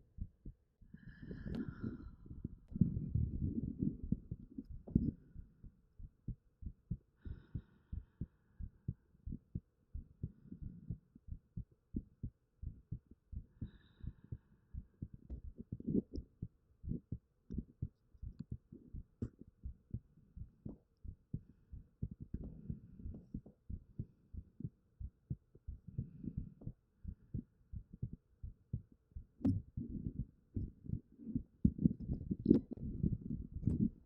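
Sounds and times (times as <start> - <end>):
heartbeat thumps: 0.0 - 34.0.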